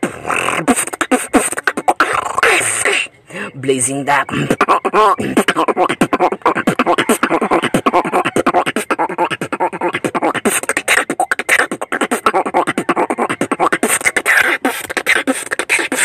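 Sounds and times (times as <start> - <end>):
beatboxing clicks and pops: 0.0 - 3.1, 4.4 - 16.0
hummed vocal sounds: 0.0 - 16.0.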